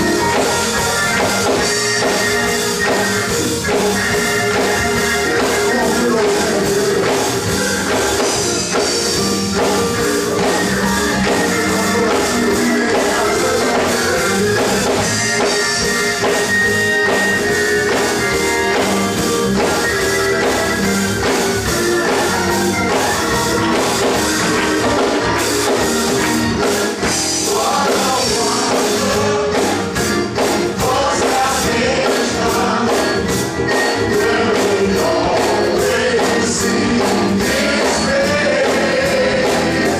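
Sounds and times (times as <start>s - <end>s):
gospel choir with band: 0.0s - 39.9s.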